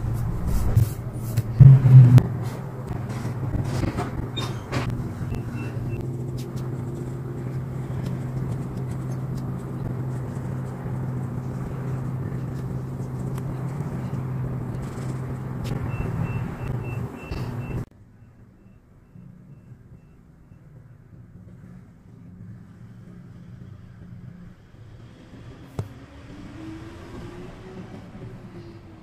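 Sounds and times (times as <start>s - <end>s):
low machine hum: 0.0s - 24.8s.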